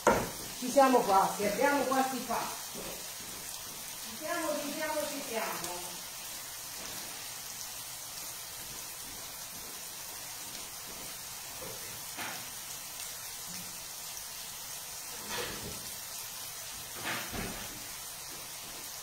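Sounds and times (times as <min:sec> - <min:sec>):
vegetables sizzling in a pan: 0:00.0 - 0:19.0.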